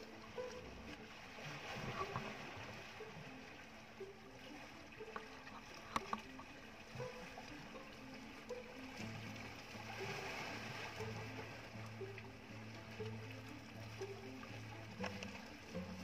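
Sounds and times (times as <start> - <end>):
water lapping against boat: 0.0 - 16.0.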